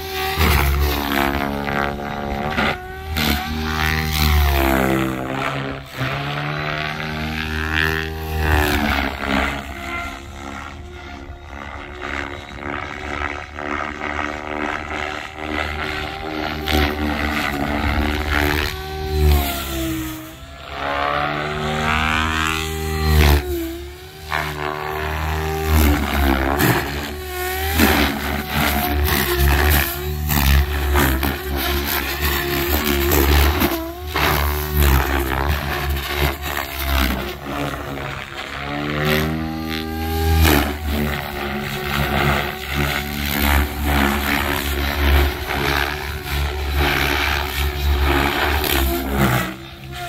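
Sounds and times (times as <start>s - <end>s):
helicopter motor and rotor whine: 0.0s - 50.0s.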